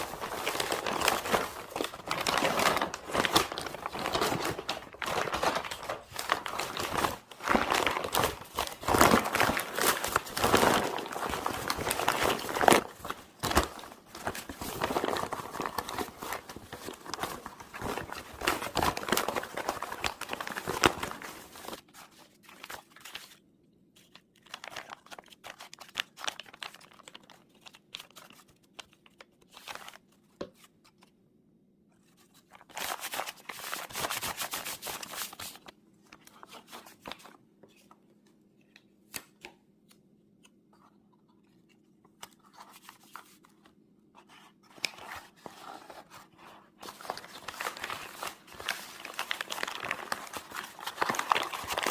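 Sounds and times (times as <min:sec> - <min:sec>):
crinkling and rustling: 0:00.0 - 0:23.4, 0:32.0 - 0:51.9.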